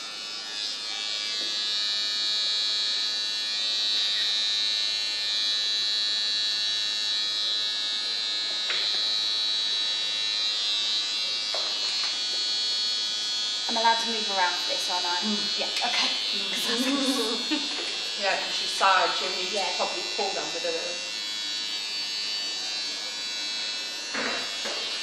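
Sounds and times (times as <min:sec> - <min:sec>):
electric hair clippers buzzing: 0:00.0 - 0:25.0.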